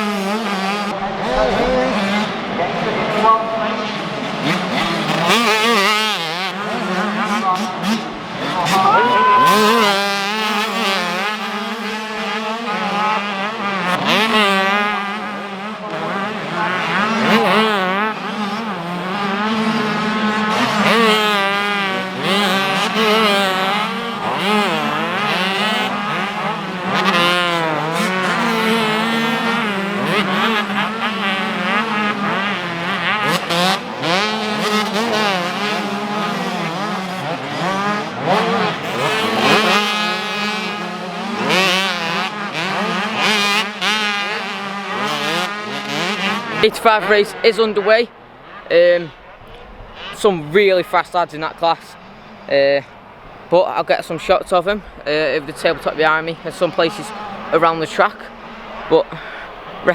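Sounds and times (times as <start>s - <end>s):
motocross bikes revving: 0.0s - 59.9s.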